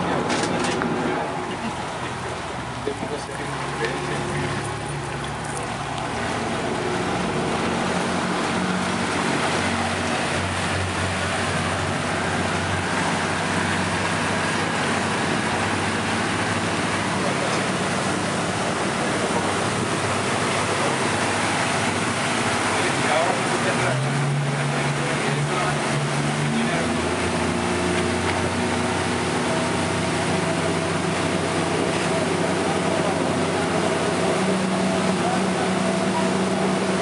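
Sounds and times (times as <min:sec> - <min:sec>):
speedboat engine running: 0:00.0 - 0:37.0
water rushing along hull: 0:00.0 - 0:37.0.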